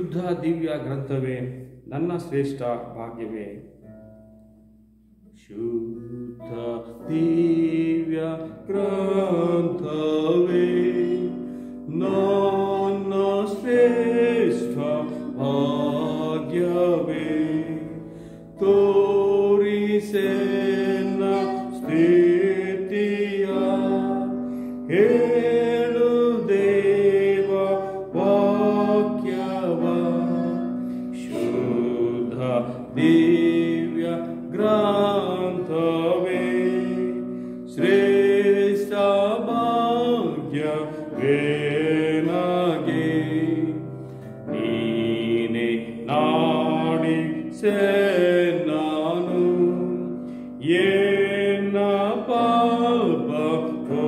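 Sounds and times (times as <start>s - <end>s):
man singing a hymn: 0.0s - 3.6s, 5.3s - 54.0s.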